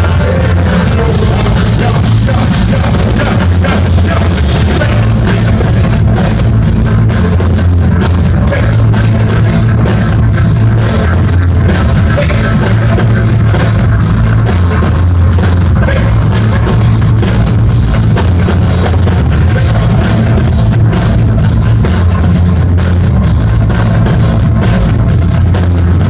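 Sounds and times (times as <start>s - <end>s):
heavy bass: 0.0s - 26.0s
live band playing loud music: 0.0s - 26.0s
steady drum beat: 0.0s - 26.0s.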